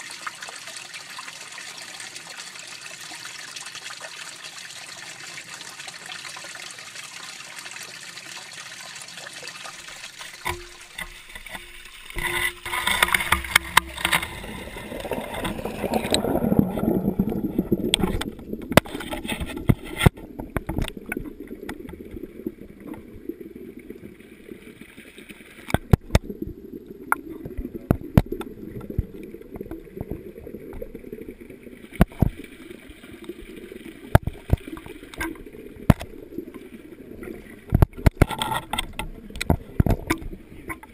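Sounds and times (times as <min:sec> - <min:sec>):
water trickling into tank: 0:00.0 - 0:40.9.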